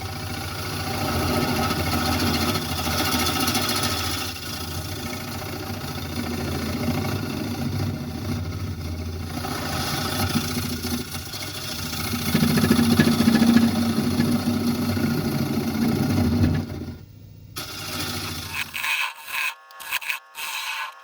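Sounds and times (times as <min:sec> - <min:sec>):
wood lathe tool cutting wood: 0:00.0 - 0:17.0, 0:17.6 - 0:21.0.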